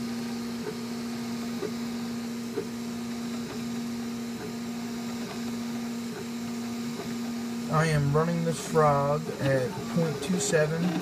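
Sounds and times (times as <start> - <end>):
printer humming: 0.0 - 11.0.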